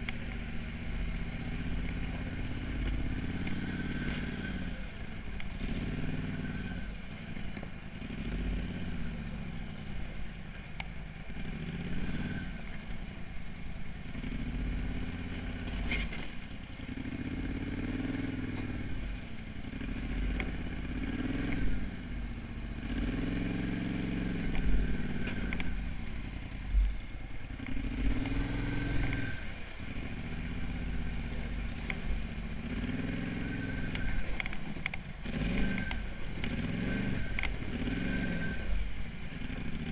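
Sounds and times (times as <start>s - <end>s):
atv engine revving: 0.0s - 10.2s, 11.1s - 13.2s, 14.0s - 39.9s.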